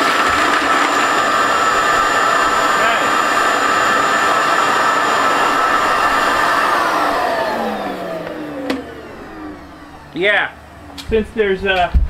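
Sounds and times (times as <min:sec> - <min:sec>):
shop vacuum whining: 0:00.0 - 0:12.0.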